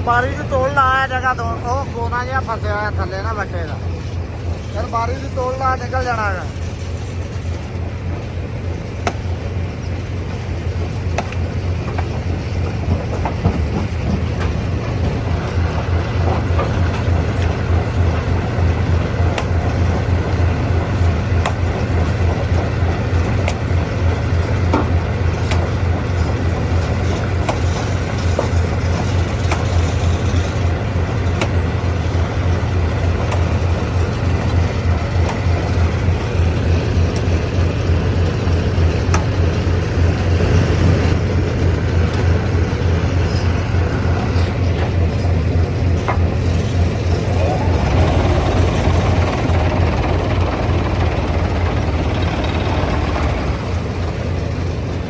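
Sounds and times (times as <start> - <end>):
stone crusher humming: 2.4 - 55.0.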